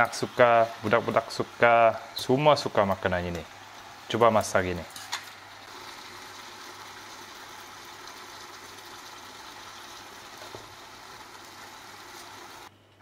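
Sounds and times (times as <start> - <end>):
meat sizzling in a frying pan: 0.0 - 12.7.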